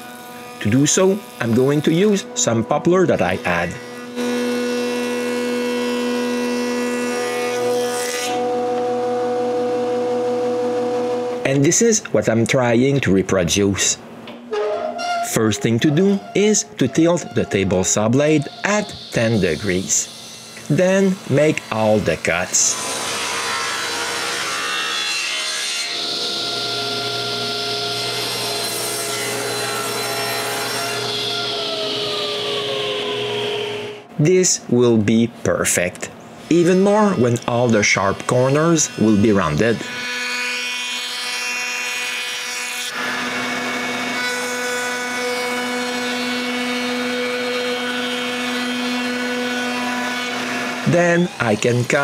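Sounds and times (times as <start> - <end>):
table saw motor whine: 0.0 - 11.4, 14.5 - 34.1, 36.6 - 52.0
woodworking power tool running: 0.0 - 11.4, 15.8 - 34.1, 36.5 - 52.0.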